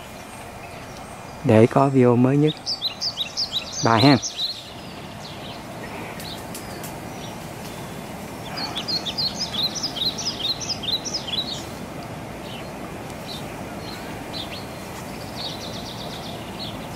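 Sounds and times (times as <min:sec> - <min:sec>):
outdoor background hiss: 0:00.0 - 0:16.9
songbird chirping: 0:00.0 - 0:16.9.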